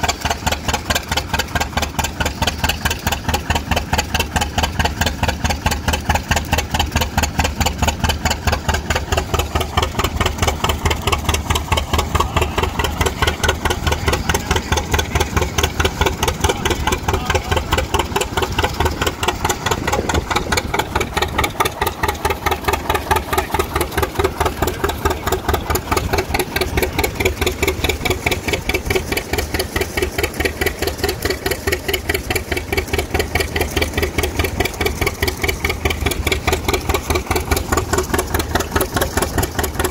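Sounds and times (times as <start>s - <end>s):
two-cylinder engine popping exhaust: 0.0s - 39.9s.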